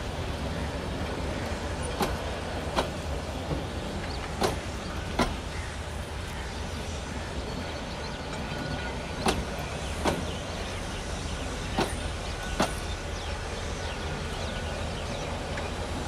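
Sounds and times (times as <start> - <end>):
train coaches rumbling past: 0.0 - 16.0
train wheel clacks: 0.0 - 16.0.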